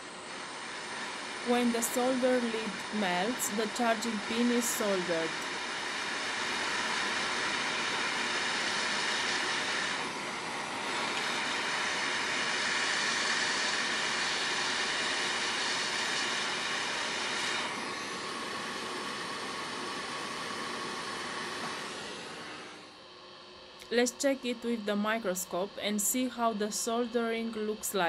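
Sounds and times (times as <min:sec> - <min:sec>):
hot air blower hissing: 0:00.0 - 0:28.0.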